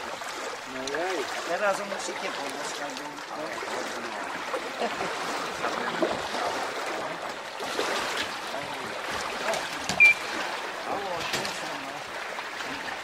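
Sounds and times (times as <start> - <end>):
water lapping around pier: 0.0 - 13.0.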